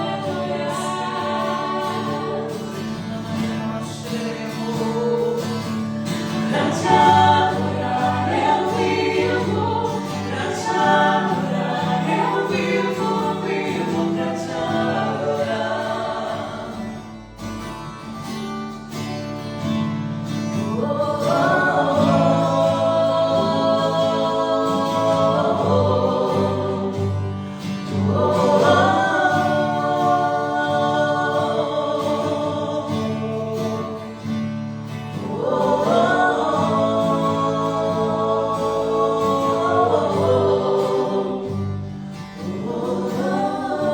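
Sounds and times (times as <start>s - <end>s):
voices singing worship song: 0.0s - 17.6s, 19.6s - 43.9s.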